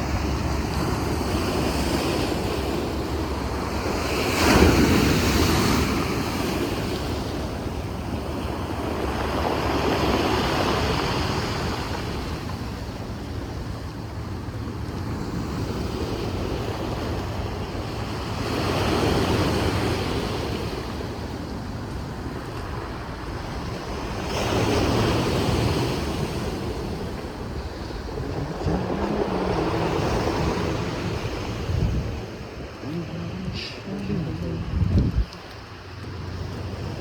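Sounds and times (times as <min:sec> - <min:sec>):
sea waves washing on shore: 0:00.0 - 0:37.0
wind rumbling on microphone: 0:00.0 - 0:37.0.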